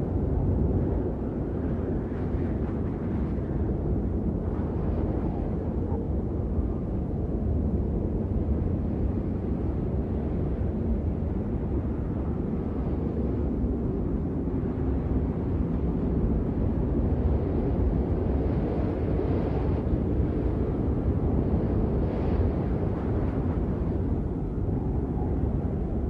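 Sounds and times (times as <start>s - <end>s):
blizzard wind rushing: 0.0s - 26.0s.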